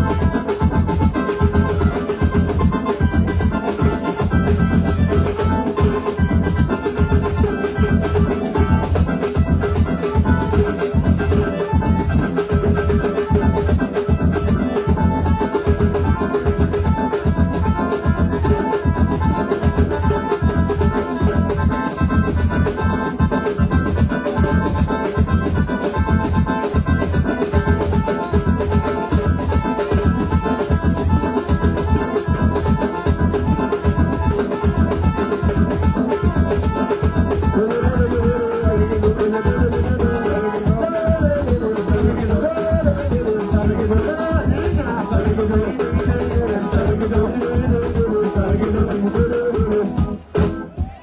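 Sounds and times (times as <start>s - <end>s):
keyboard organ sound: 0.0s - 51.0s
steady drum beat: 0.0s - 51.0s.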